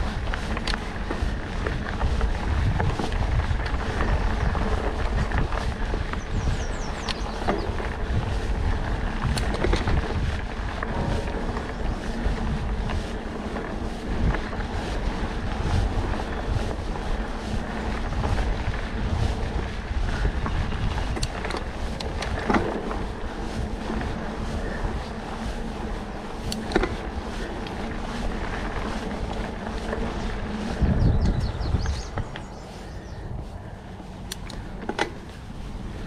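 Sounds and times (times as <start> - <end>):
bike clicks and rattles: 0.0 - 36.0
bike tyre rumble on dirt: 0.0 - 36.0
wind on microphone: 0.0 - 36.0.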